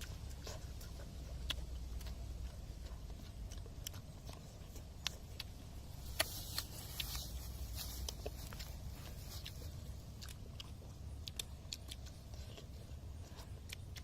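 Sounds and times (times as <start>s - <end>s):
chewing fish: 0.0s - 14.0s
small clicks and crunches: 0.0s - 14.0s.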